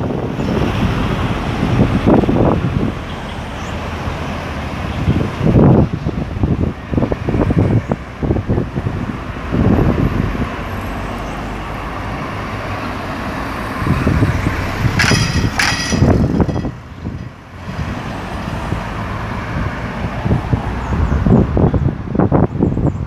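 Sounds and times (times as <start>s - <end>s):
cars driving past: 0.0s - 22.5s.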